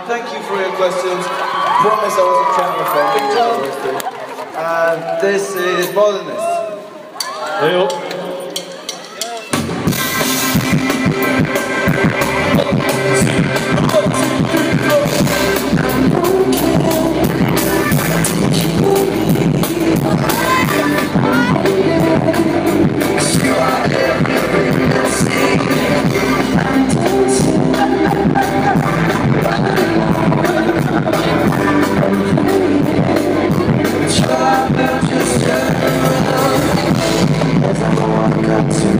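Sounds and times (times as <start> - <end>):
live pop band over pa system: 0.0 - 38.9.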